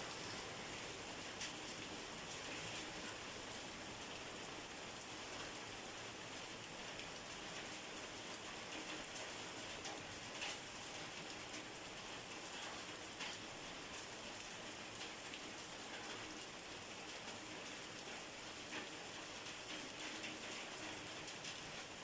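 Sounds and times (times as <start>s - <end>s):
rain pattering on a surface: 0.0s - 22.0s.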